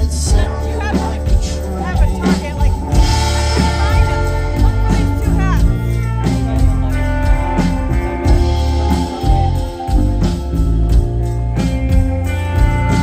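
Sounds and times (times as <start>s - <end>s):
bass guitar: 0.0s - 13.0s
drums: 0.0s - 13.0s
electric guitars: 0.0s - 13.0s.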